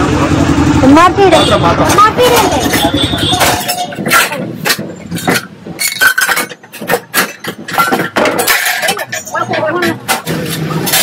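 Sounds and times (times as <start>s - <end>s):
kitchen vessels clattering: 1.9s - 11.0s.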